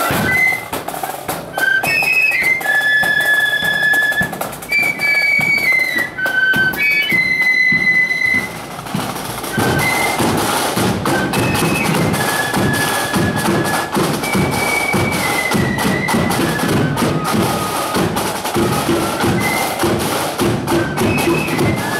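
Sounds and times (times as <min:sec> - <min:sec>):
bass and side drums march beat: 0:00.0 - 0:21.9
flutes playing melody: 0:00.0 - 0:21.9.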